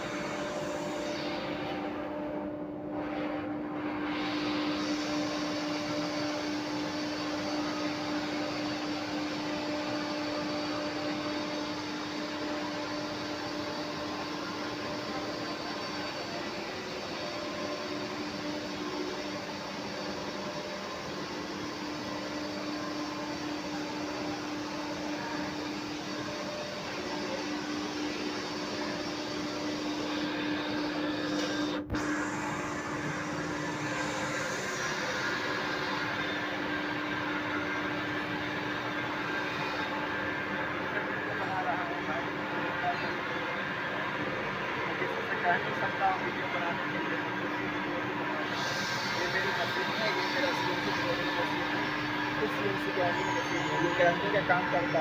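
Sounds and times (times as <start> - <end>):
workshop machine whirring: 0.0 - 55.0.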